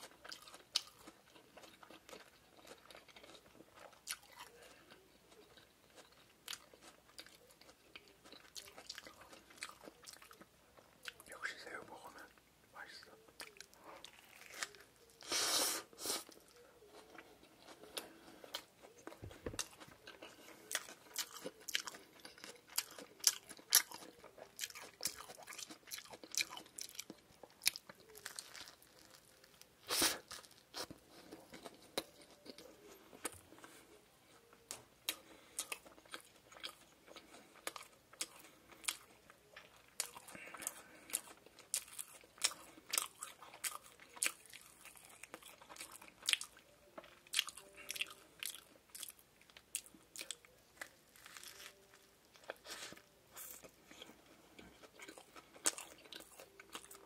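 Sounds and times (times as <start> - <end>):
chewing with crunches: 0.0 - 57.0.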